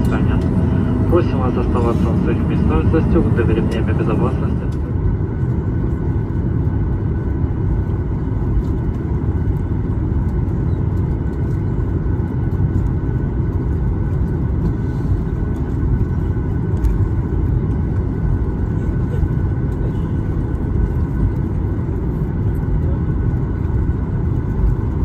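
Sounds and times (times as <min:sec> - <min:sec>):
aircraft cabin rumble while taxiing: 0:00.0 - 0:25.0
faint steady whine: 0:00.0 - 0:25.0.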